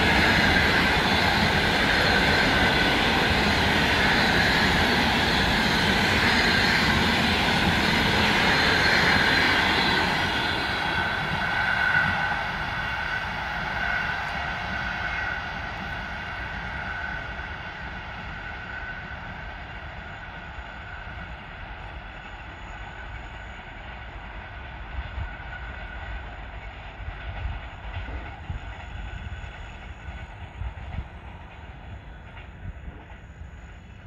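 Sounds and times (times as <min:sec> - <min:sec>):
electric locomotive whine: 0:00.0 - 0:34.0
wheels rumbling on rail: 0:00.0 - 0:34.0.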